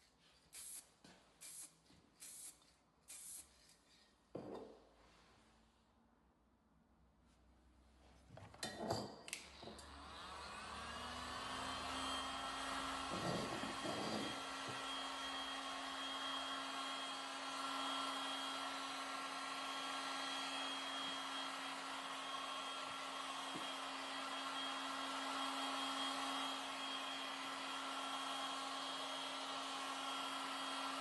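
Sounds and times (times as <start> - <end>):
heat gun blowing: 0.0 - 3.8, 9.8 - 31.0.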